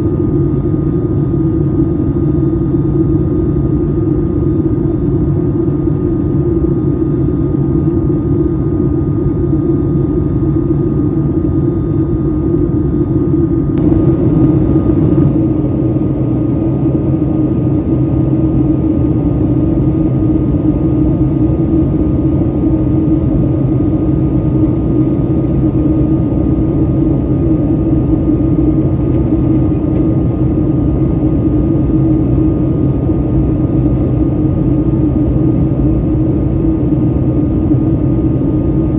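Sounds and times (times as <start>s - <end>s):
airliner cabin engine drone: 0.0s - 38.9s
faint steady whine: 0.0s - 38.9s.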